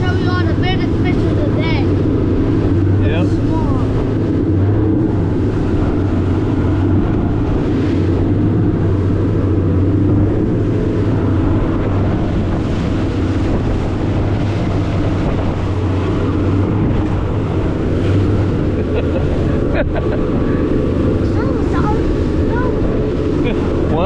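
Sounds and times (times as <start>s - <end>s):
motorboat engine droning: 0.0s - 24.0s.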